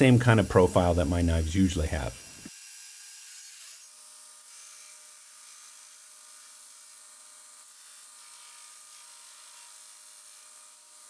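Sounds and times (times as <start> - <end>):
belt grinder grinding steel: 0.0 - 11.0.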